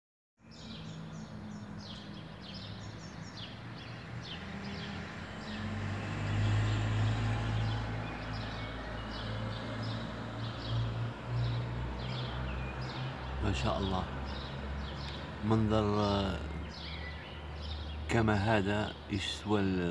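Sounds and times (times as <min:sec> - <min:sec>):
birds chirping: 0:00.4 - 0:19.9
city traffic rumble: 0:00.4 - 0:19.9.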